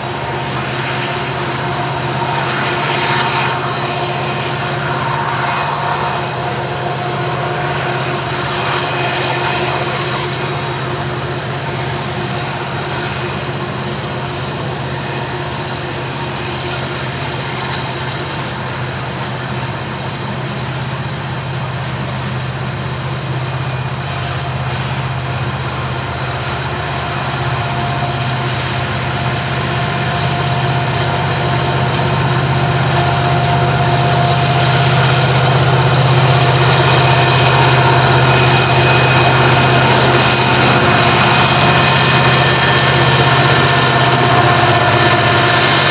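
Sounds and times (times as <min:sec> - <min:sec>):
diesel locomotive drone: 0:00.0 - 0:45.9
train wheels on rails: 0:00.0 - 0:45.9.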